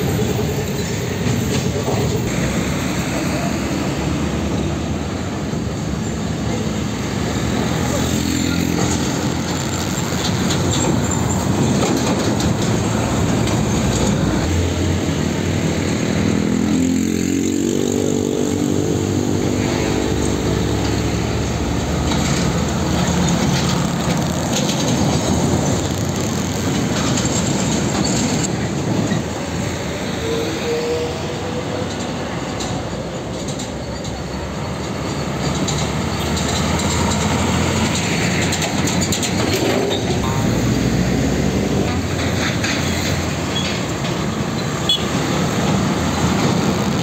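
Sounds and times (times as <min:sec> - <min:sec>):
trucks driving past: 0:00.0 - 0:47.0.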